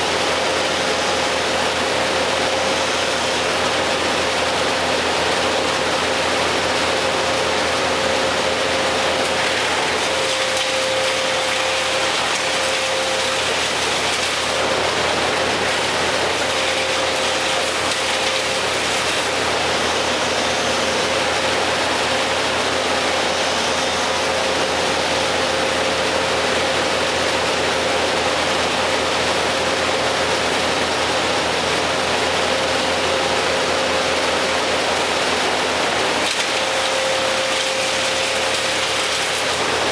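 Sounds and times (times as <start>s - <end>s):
machinery noise: 0.0s - 39.9s.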